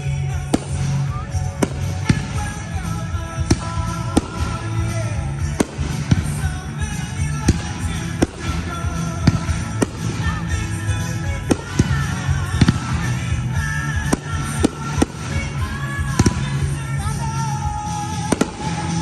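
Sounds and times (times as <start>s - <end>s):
fireworks bangs: 0.0s - 19.0s
music: 0.0s - 19.0s.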